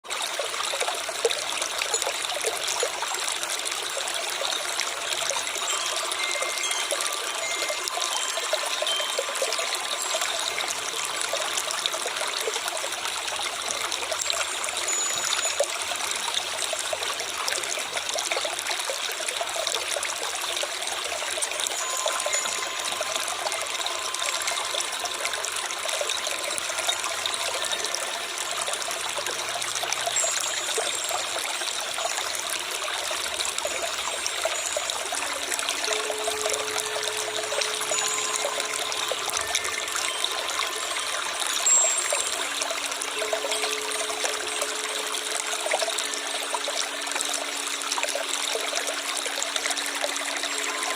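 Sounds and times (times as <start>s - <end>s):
stream trickling over stones: 0.0s - 50.9s.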